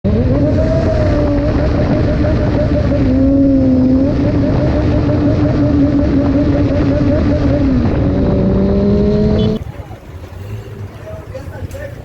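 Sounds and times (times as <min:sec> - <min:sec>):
motorcycle engine running: 0:00.0 - 0:11.3
wind noise: 0:00.0 - 0:12.0.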